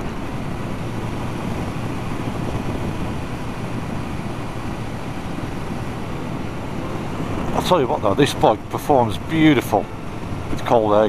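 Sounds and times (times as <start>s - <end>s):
wind rush: 0.0s - 10.9s
road noise: 0.0s - 11.0s.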